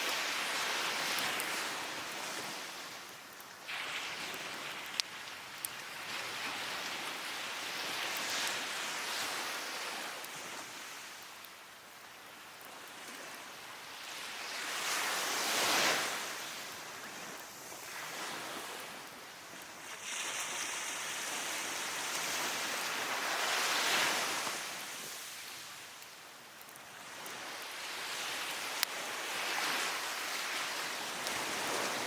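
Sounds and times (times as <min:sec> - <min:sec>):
ocean surf breaking on beach: 0:00.0 - 0:32.0.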